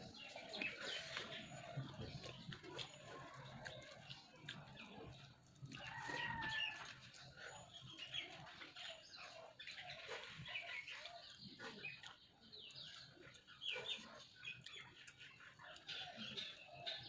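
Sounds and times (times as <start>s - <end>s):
wet chewing and lip smacking: 0.0s - 17.0s.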